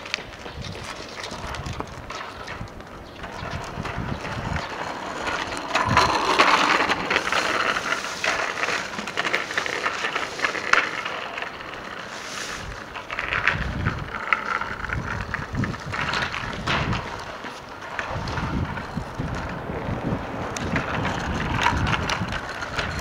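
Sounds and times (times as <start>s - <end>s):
bicycle rattling over asphalt: 0.0s - 23.0s.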